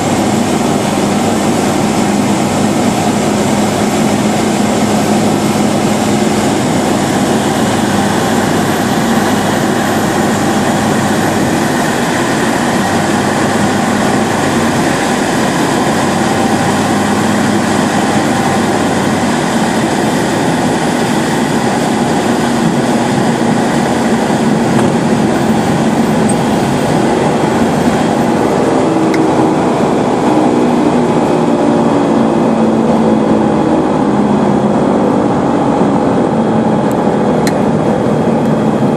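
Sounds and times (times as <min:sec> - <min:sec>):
aircraft engine and propeller drone: 0:00.0 - 0:38.9
airflow noise: 0:00.0 - 0:38.9.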